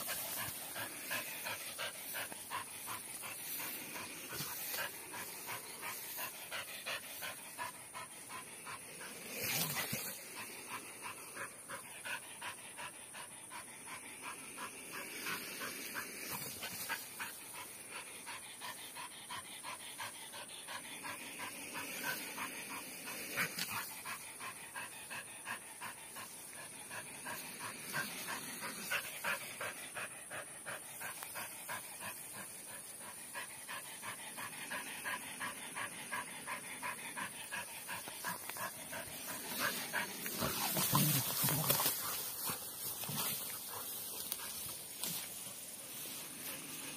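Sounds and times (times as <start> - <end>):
dog panting: 0.0 - 44.9.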